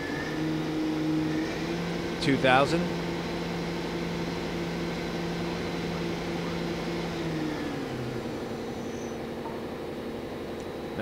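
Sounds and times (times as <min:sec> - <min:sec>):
lathe spindle humming: 0:00.0 - 0:11.0.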